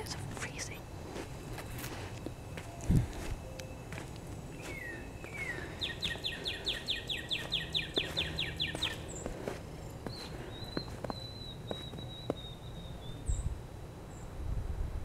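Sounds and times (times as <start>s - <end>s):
songbird singing: 0.0s - 14.4s.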